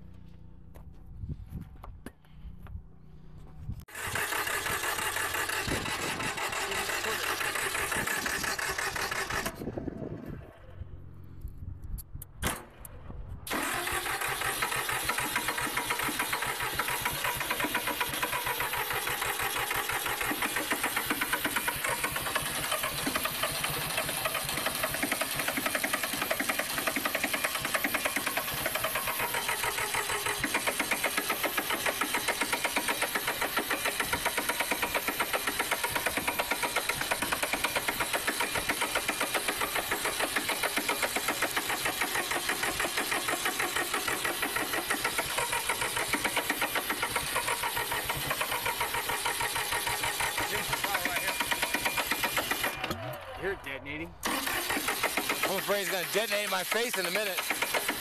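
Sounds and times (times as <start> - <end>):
diesel engine cranking on starter: 3.8 - 11.5, 12.3 - 58.0.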